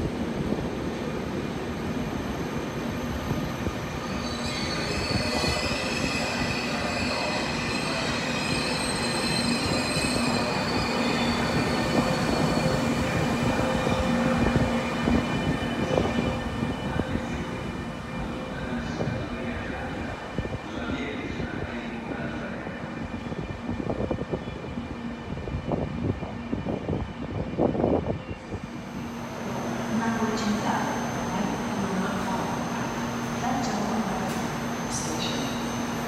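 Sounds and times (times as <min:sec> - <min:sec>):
electric locomotive passing: 0:00.0 - 0:36.0.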